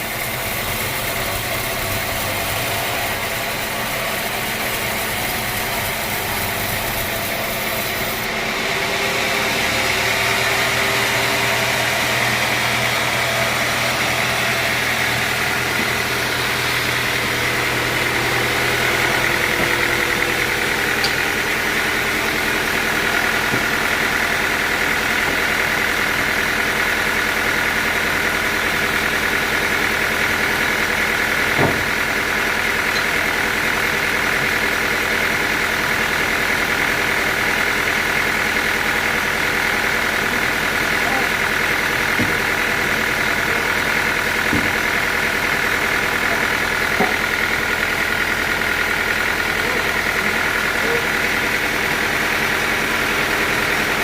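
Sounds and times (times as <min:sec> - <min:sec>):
sawmill machinery drone and whine: 0:00.0 - 0:54.0.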